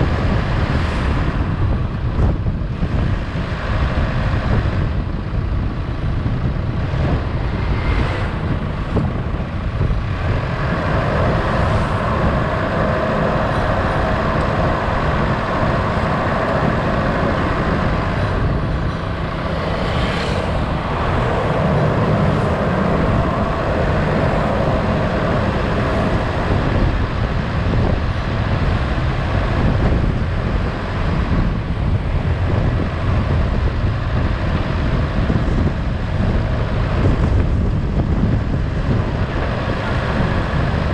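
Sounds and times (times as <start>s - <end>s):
vehicle engine and road noise: 0.0s - 40.9s
wind buffeting microphone: 0.0s - 40.9s.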